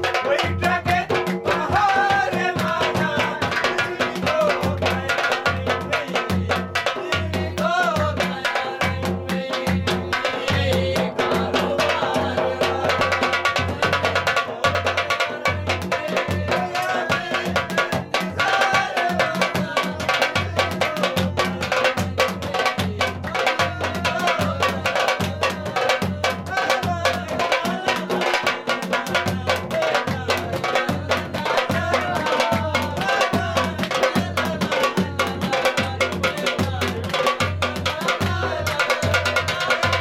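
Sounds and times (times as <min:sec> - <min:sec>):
drums driving beat: 0:00.0 - 0:40.0.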